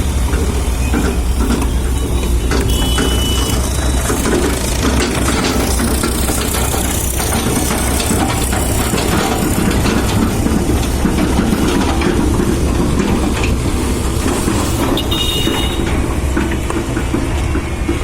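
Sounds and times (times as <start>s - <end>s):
construction machine rumbling: 0.0s - 18.0s.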